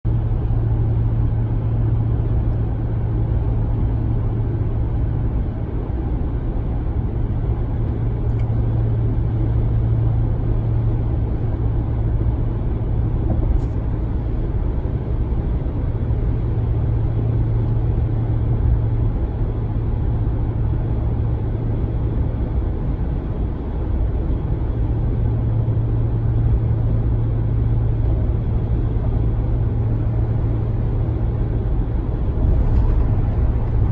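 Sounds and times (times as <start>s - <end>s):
cabin drone low hum: 0.0s - 33.9s
road noise: 0.0s - 33.9s.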